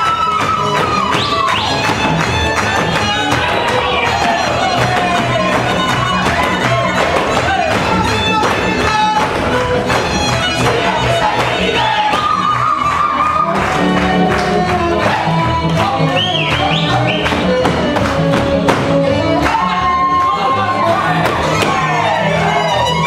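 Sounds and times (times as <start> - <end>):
dancers stamping on wooden stage: 0.0 - 22.6
double bass beat: 0.0 - 23.0
fiddle melody: 0.0 - 23.0.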